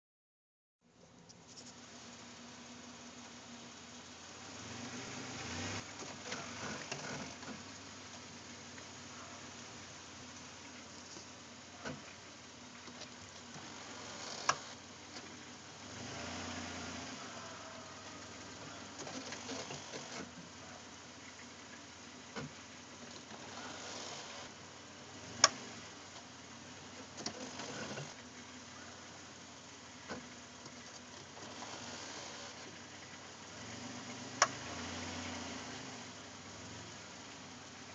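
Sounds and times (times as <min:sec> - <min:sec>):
van engine idling: 0:00.8 - 0:37.9.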